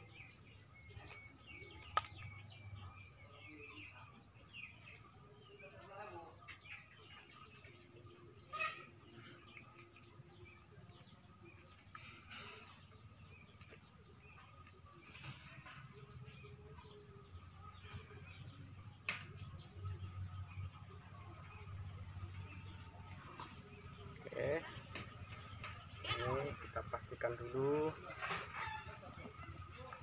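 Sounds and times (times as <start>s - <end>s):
faint bird chirping: 0.0s - 30.0s.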